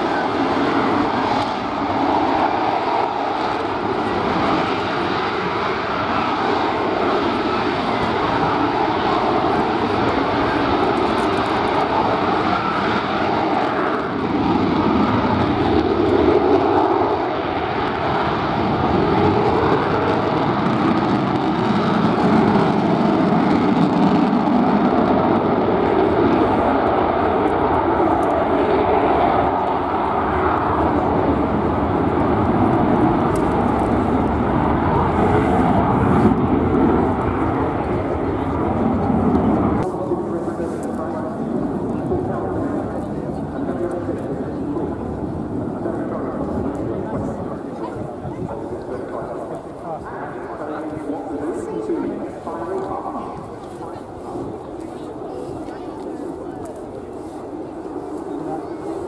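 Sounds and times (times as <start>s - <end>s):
jet engine hovering: 0.0s - 59.0s.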